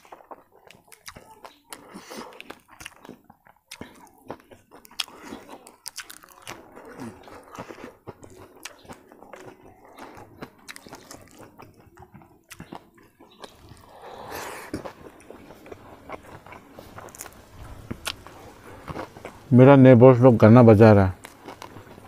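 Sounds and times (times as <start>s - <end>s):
person chewing with wet clicks: 0.0s - 19.5s, 21.1s - 22.0s.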